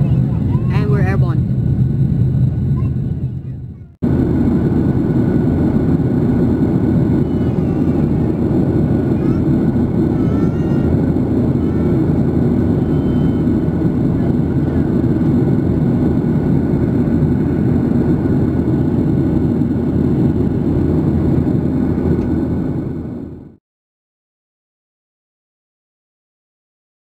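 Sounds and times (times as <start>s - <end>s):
faint high whine: 0.0s - 23.3s
airflow over fuselage: 0.0s - 23.6s
jet engine cabin roar: 0.0s - 23.6s.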